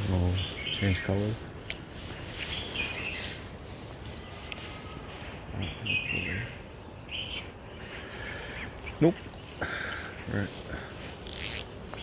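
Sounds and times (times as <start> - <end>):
birds chirping: 0.0 - 12.0
outdoor background noise: 0.0 - 12.0.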